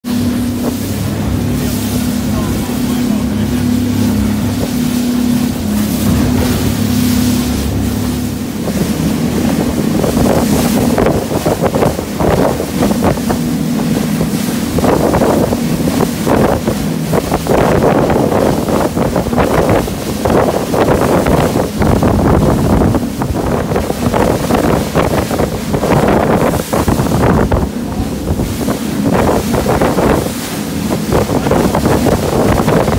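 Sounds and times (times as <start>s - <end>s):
outboard motors droning: 0.0s - 32.9s
water rushing past hull: 0.0s - 32.9s
wind buffeting microphone: 0.0s - 32.9s.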